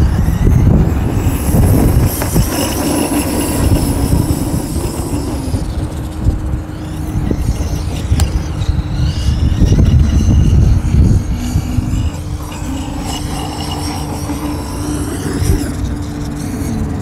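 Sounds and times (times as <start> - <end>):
electric motor whining: 0.0 - 17.0
heavy low rumble: 0.0 - 17.0.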